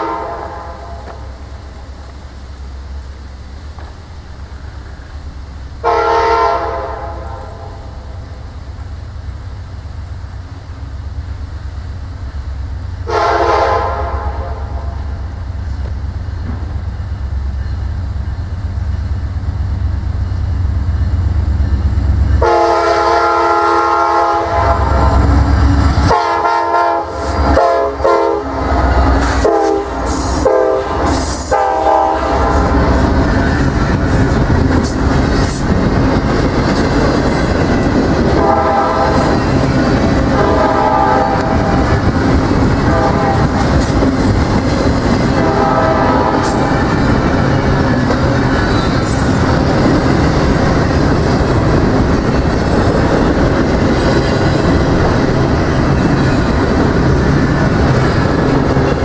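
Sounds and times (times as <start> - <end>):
locomotive engine rumble: 0.0 - 59.0
train cars clacking on rails: 0.0 - 59.0.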